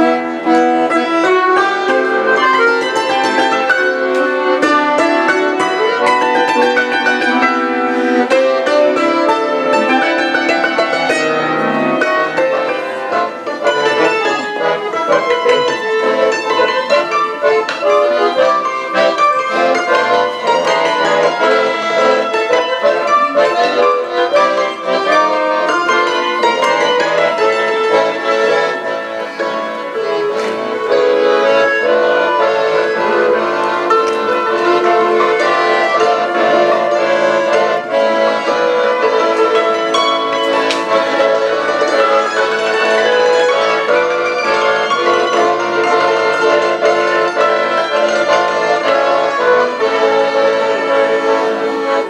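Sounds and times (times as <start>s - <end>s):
accordion chords: 0.0s - 52.0s
plucked string notes: 0.0s - 52.0s.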